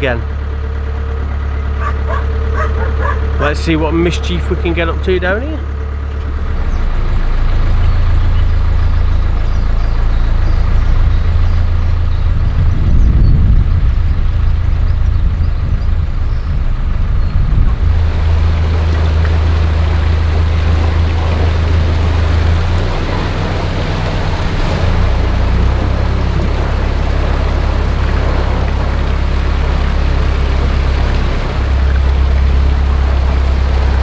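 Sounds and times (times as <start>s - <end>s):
boat diesel engine humming: 0.0s - 34.0s.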